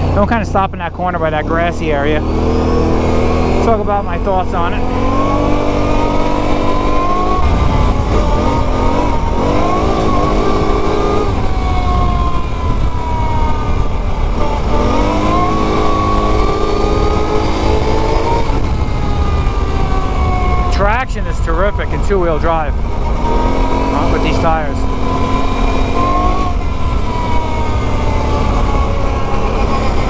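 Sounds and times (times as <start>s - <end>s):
quad bike engine revving: 0.0s - 30.0s.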